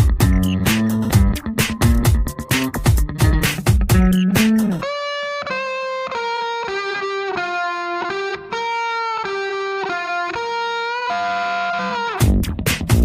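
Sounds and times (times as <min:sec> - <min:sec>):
electric guitar lead melody: 0:00.0 - 0:12.6.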